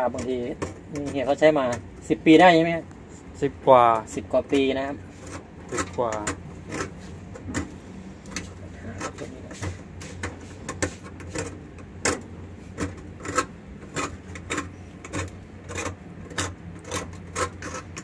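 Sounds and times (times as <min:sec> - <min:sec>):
hand tool scraping: 0:00.0 - 0:03.3, 0:04.0 - 0:18.0.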